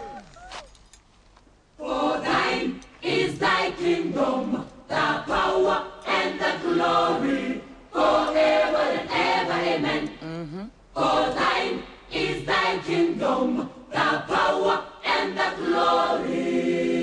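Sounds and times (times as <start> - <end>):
choir singing: 1.8 - 10.2, 11.0 - 17.0.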